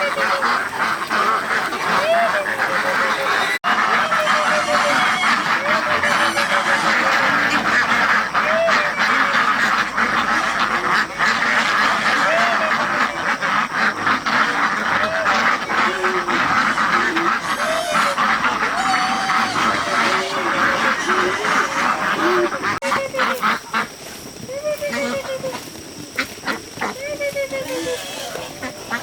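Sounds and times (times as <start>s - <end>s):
geese honking: 0.0s - 24.0s, 24.6s - 29.0s
ducks quacking: 0.0s - 29.0s.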